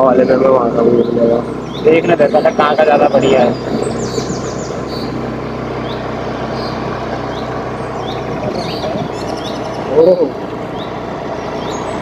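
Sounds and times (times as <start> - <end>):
low hum: 0.0 - 12.0
outdoor rumble and hiss: 0.0 - 12.0
small bird chirping: 0.0 - 12.0.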